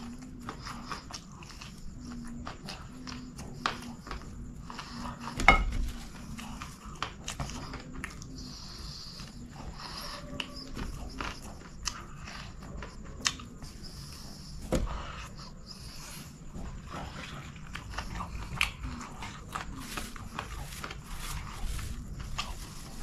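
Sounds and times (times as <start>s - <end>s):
man chewing food: 0.0s - 23.0s.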